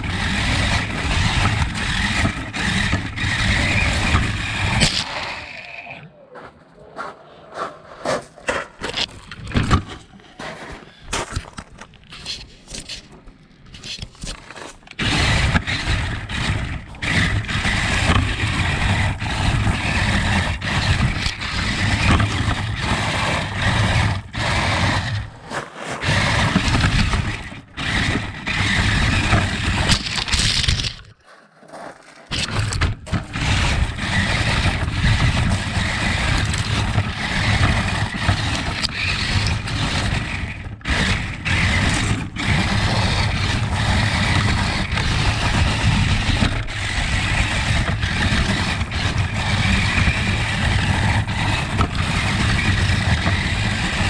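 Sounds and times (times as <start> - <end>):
toy car motor over rough ground: 0.0 - 6.1, 8.8 - 54.0.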